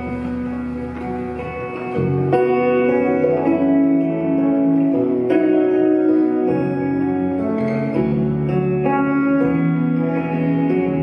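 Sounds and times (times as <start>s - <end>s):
electric bass: 0.0s - 11.0s
guitars: 0.0s - 11.0s.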